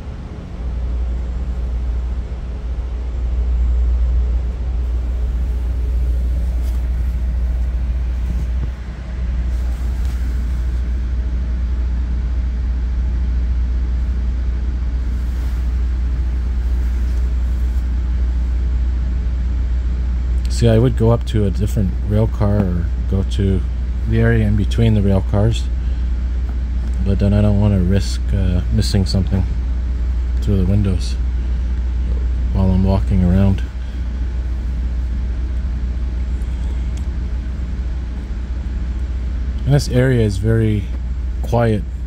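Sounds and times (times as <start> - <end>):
diesel locomotive engine working: 0.0 - 42.0.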